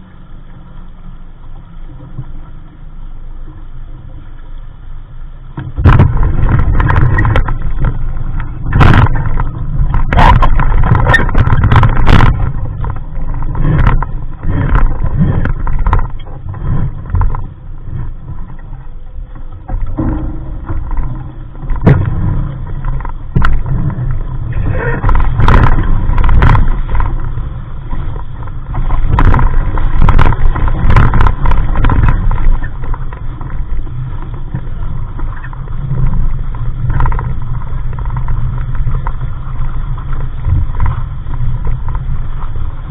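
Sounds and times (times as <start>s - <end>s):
water rushing against hull: 0.0s - 42.9s
wind buffeting microphone: 5.5s - 42.9s.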